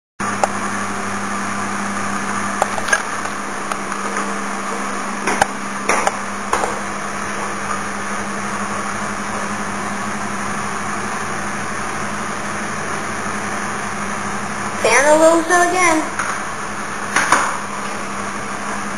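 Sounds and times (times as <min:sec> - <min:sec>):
mechanical hum: 0:00.2 - 0:18.9.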